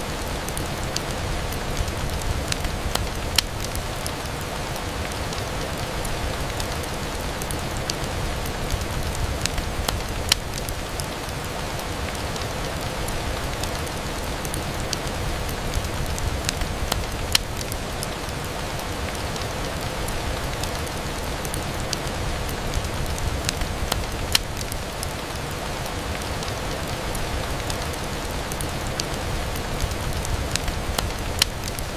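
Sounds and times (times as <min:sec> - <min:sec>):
rain on a window: 0:00.0 - 0:31.9.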